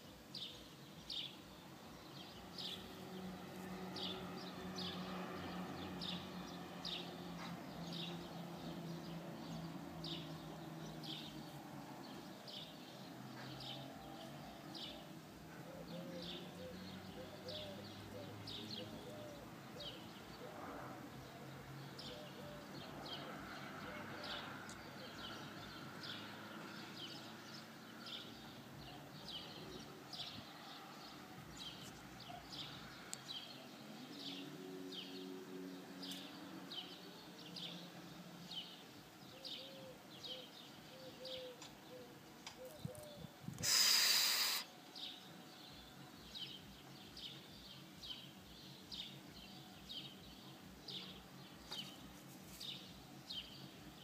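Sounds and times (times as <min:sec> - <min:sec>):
bird chirping: 0:00.0 - 0:54.0
faint background noise: 0:00.0 - 0:54.0.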